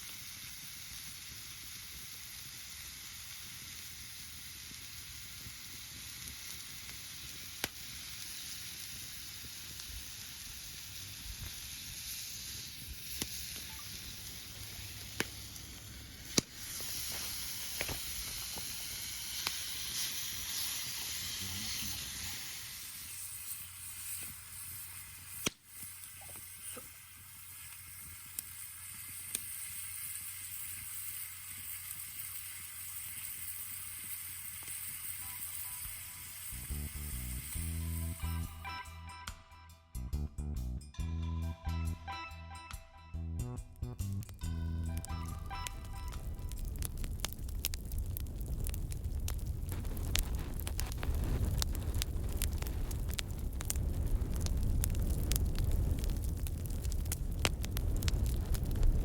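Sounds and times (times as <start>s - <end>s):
fire popping and crackling: 0.0s - 38.5s, 43.8s - 59.0s
meat sizzling over fire: 0.0s - 38.6s, 44.0s - 59.0s.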